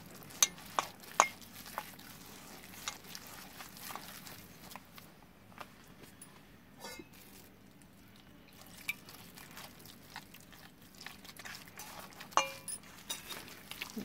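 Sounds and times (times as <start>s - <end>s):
hand squishing thick paste: 0.0s - 6.0s, 7.1s - 14.0s.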